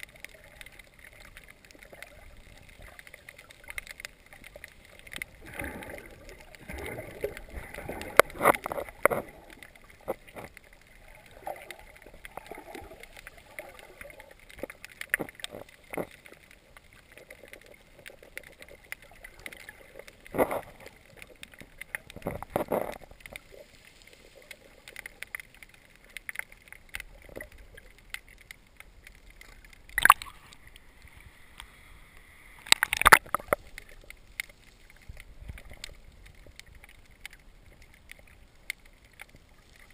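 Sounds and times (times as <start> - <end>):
muffled water sloshing and gurgling: 0.0 - 39.9
water splashes: 0.0 - 39.9.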